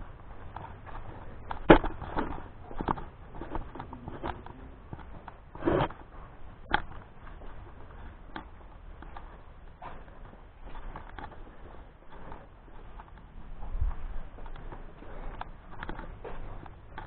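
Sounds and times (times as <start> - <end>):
footsteps crunching over debris: 0.0 - 17.0.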